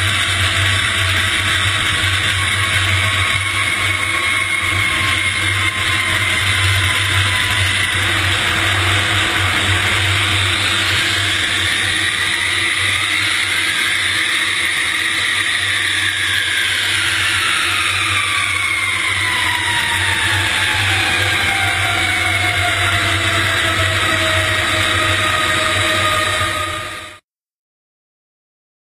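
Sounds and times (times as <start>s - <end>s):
jet engines high turbine whine: 0.0s - 27.2s
low hum: 0.0s - 27.2s.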